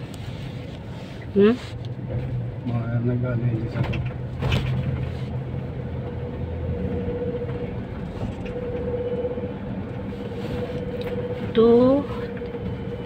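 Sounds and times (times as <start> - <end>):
motor vehicle humming: 0.0 - 13.0.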